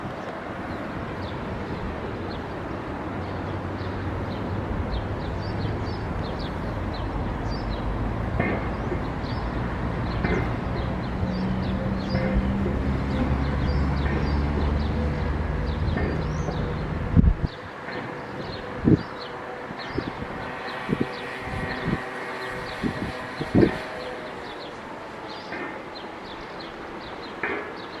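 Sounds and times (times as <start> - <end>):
low engine drone: 0.0 - 28.0
outdoor noise: 0.0 - 28.0
small birds chirping: 3.2 - 28.0.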